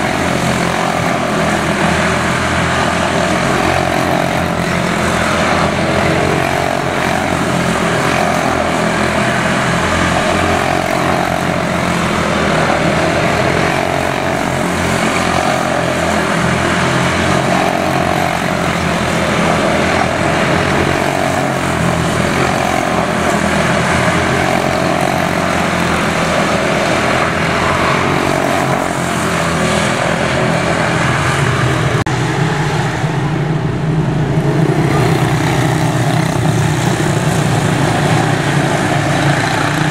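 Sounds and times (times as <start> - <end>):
race car engines droning: 0.0 - 39.9.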